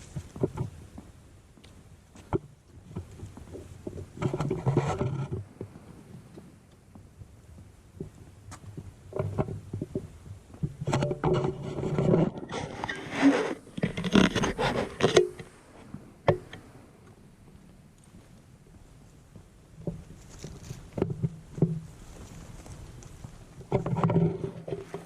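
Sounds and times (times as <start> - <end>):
footsteps on trail: 0.0 - 25.0
rumbling microphone noise: 0.0 - 25.0.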